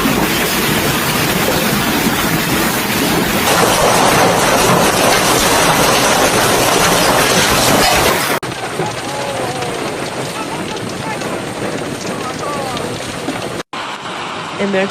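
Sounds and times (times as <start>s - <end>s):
hail and rain roaring: 0.0s - 14.9s.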